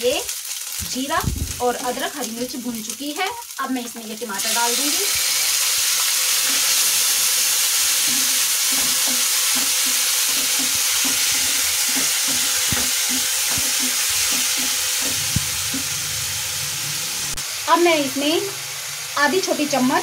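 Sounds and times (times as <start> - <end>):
tomatoes sizzling in hot oil: 0.0 - 20.0.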